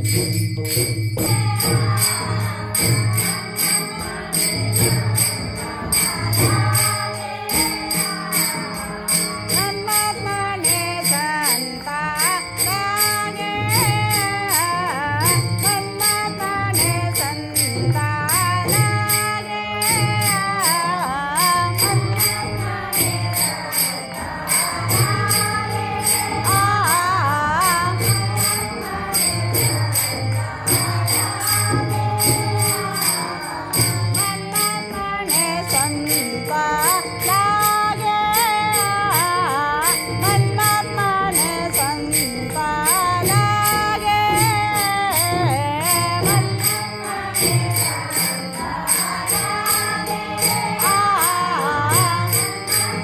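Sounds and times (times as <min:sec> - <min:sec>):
jingling percussion: 0:00.0 - 0:53.0.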